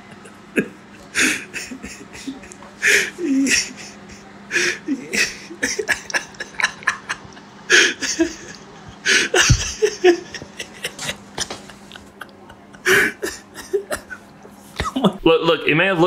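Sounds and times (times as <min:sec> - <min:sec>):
quiet breathy laughter: 0:00.0 - 0:15.2.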